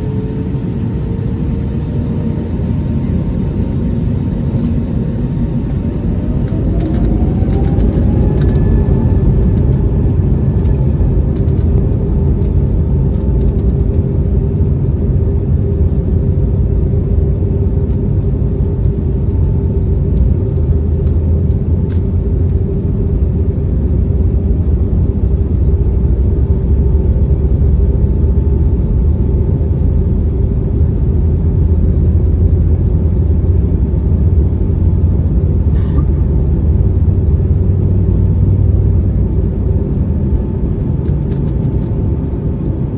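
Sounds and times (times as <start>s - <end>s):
jet engine rumble: 0.0s - 42.9s
jet engine whine: 0.0s - 42.9s.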